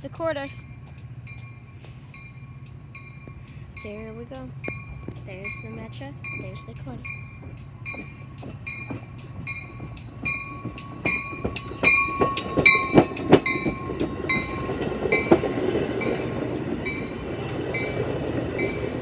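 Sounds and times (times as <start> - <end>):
train rumble: 0.0 - 19.0
train wheels clacking: 0.5 - 19.0.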